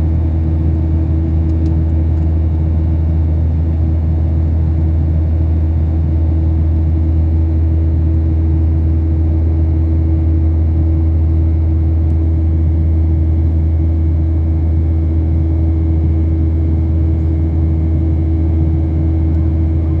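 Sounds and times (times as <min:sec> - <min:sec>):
jet engines droning in cabin: 0:00.0 - 0:20.0.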